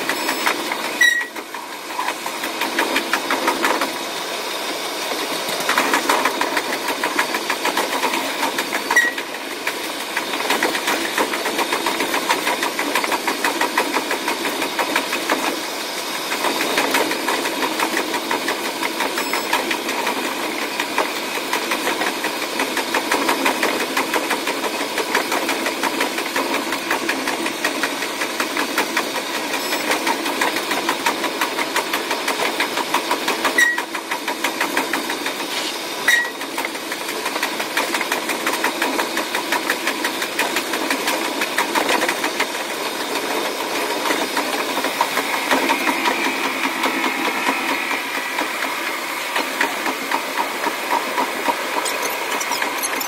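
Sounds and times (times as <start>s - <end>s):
diesel railcar engine chatter: 0.0s - 53.0s.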